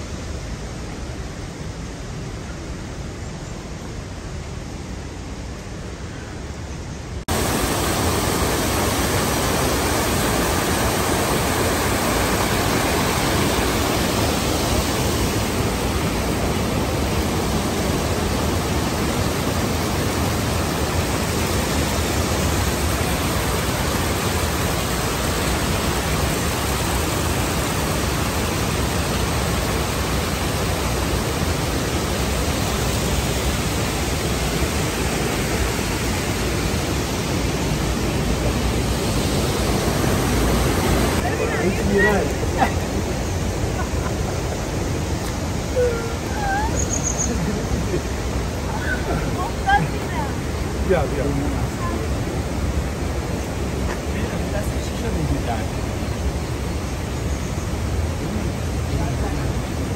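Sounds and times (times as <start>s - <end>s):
waterfall rushing: 7.2s - 59.9s.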